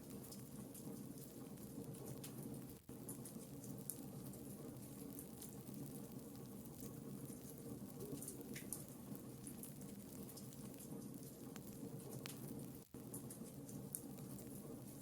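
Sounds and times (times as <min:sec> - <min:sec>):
fire low rumble: 0:00.0 - 0:15.0
logs crackling and popping: 0:00.0 - 0:15.0.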